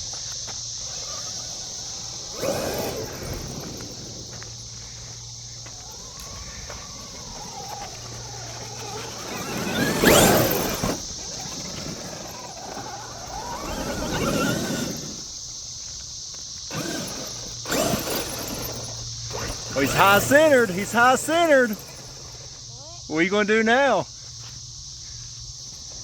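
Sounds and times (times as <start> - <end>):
electric motor whine: 0.0 - 22.7
high insect buzz: 0.0 - 26.0.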